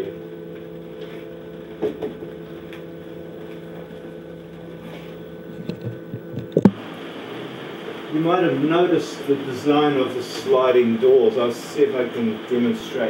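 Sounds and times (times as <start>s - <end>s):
steady multi-tone hum: 0.0s - 13.0s.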